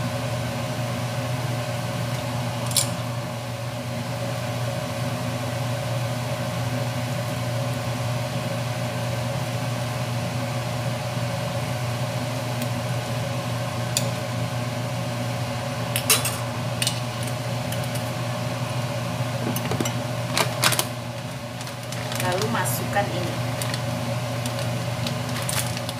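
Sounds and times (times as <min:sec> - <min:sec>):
steady mechanical hum: 0:00.0 - 0:25.9.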